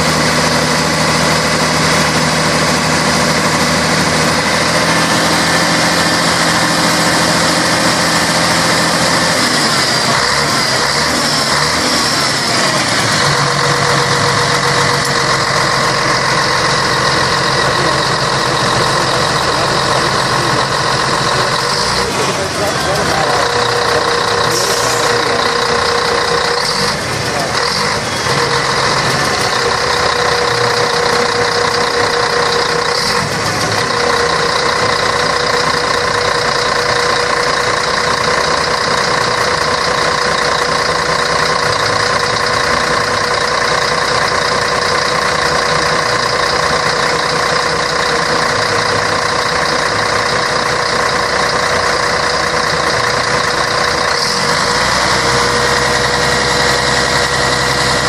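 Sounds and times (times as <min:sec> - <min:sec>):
diesel bus engine running: 0:00.0 - 0:58.0.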